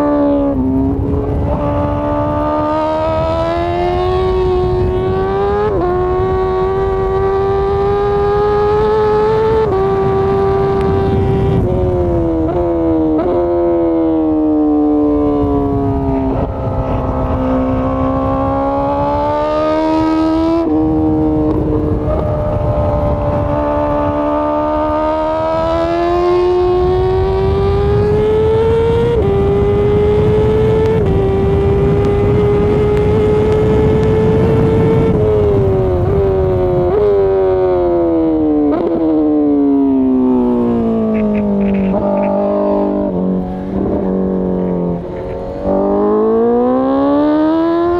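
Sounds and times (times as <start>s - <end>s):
road and wind noise: 0.0s - 47.9s.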